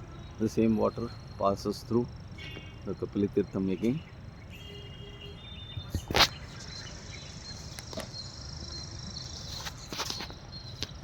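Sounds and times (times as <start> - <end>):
insects chirring: 0.1 - 11.0.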